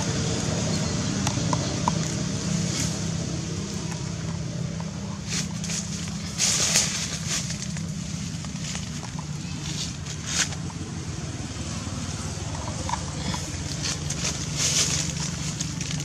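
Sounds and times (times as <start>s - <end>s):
low engine-like rumble: 0.0s - 16.0s
close rustling and scratching: 1.8s - 11.1s, 12.2s - 16.0s.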